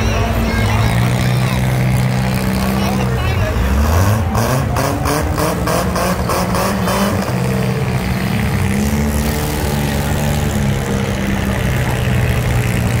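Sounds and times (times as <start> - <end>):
car engines running together: 0.0 - 13.0
engine revving hard: 0.5 - 13.0.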